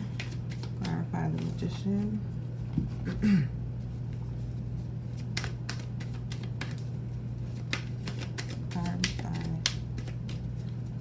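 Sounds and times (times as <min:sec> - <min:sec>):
cards being shuffled: 0:00.0 - 0:02.2, 0:04.1 - 0:11.0.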